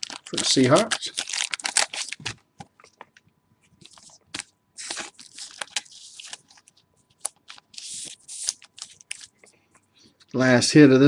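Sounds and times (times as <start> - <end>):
cards and packaging handled: 0.0 - 3.2, 3.8 - 9.5.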